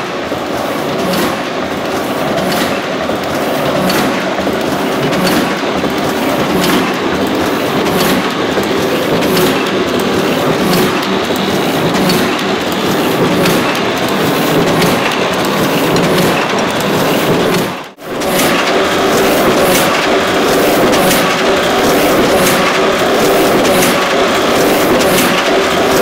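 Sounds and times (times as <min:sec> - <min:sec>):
die-cutting press clattering: 0:00.0 - 0:26.0
sharp press clack: 0:00.9 - 0:26.0.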